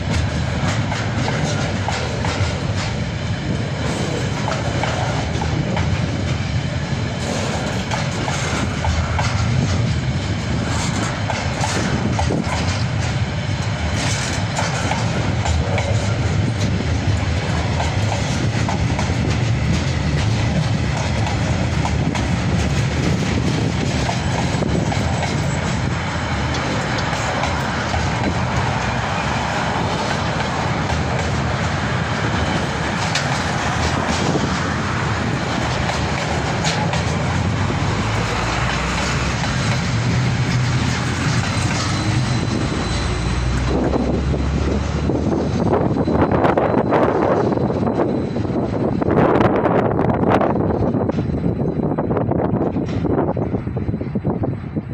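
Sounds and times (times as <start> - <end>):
wheels clicking over rail joints: 0.0 - 6.5, 7.1 - 44.6
steel wheels rumbling on rail: 0.0 - 54.9.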